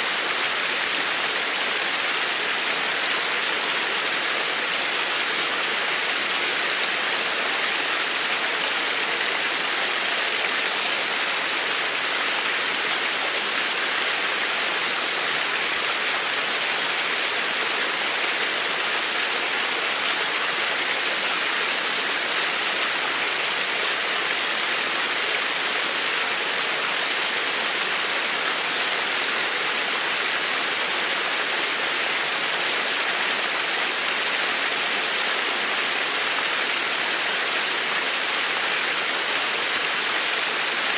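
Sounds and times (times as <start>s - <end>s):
creek water running: 0.0s - 40.9s.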